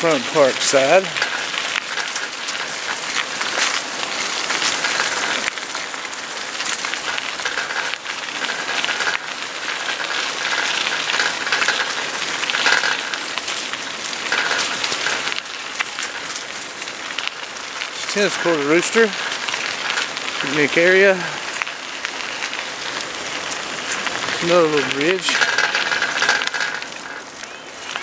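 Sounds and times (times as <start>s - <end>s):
bicycle tyres on gravel: 0.0s - 28.0s.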